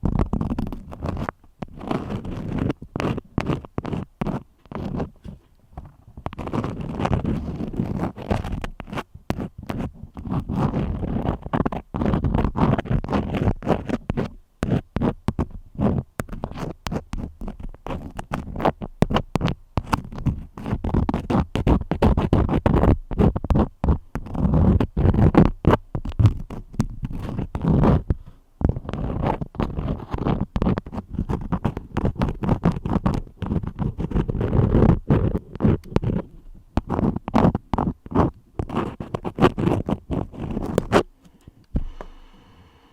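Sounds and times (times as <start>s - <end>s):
crayons scratching on paper: 0.0s - 41.1s.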